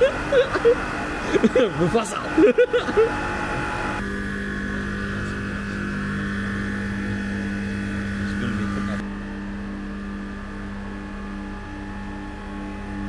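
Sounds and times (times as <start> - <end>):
electric lift motor hum: 0.0 - 13.0
motor whine: 0.0 - 13.0.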